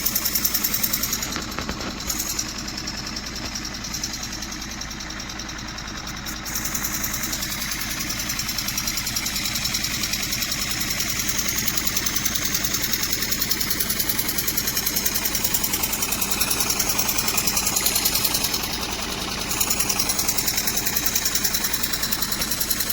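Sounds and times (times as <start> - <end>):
miniature steam engine running: 0.0 - 22.9.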